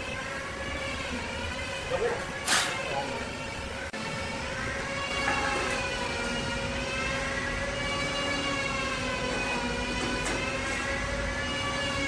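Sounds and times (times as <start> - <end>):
band sawmill hum and whine: 0.0 - 12.0.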